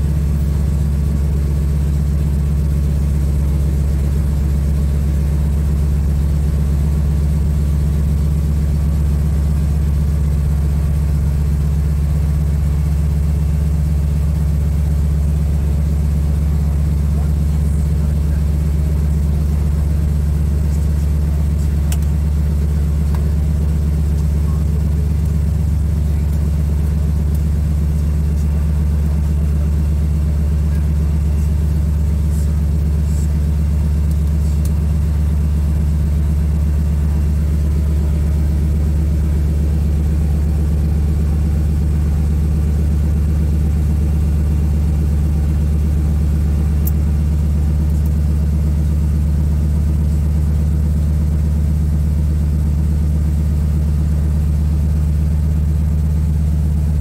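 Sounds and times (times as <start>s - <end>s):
seaplane engine and propeller drone: 0.0s - 57.0s.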